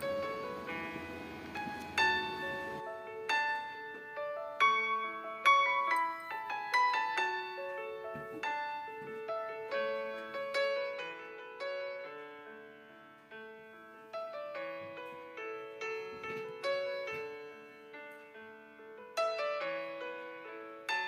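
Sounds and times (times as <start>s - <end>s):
gentle solo piano: 0.0s - 21.0s.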